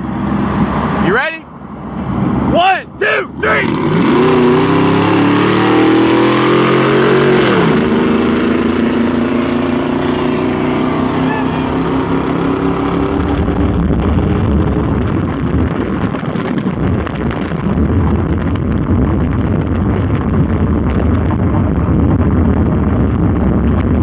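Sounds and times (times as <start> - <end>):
truck engine drone: 0.0 - 24.0
wind and road noise rumble: 0.0 - 24.0.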